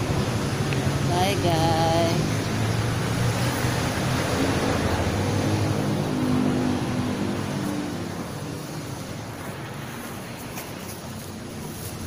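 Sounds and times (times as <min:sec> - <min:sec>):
traffic hum: 0:00.0 - 0:12.0.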